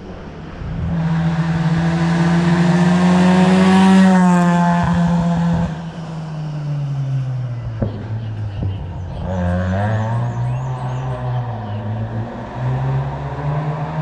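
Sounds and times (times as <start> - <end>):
race car passing accelerating: 0.1 - 14.0.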